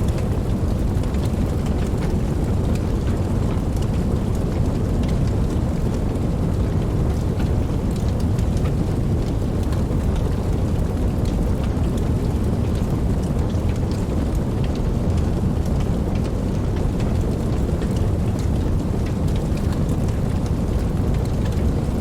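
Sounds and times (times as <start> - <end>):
raindrops ticking: 0.0 - 22.0
steady rain rushing: 0.0 - 22.0.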